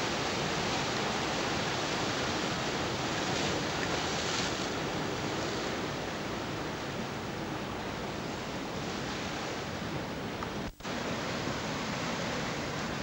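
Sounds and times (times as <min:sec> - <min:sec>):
sea waves and surf: 0:00.0 - 0:13.0.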